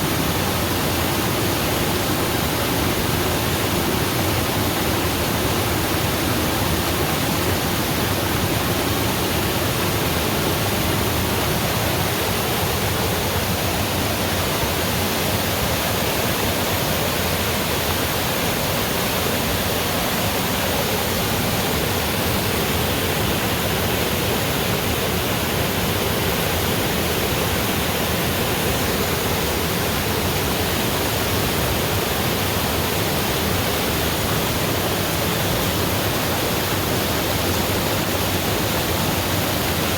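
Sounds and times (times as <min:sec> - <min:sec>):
waterfall roar: 0:00.0 - 0:39.9.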